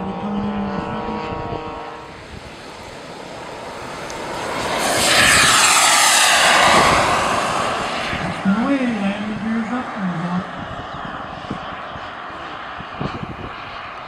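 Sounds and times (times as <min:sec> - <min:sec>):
model aircraft engines idling: 0:00.0 - 0:14.0
model jet engine whine passing: 0:00.0 - 0:14.0.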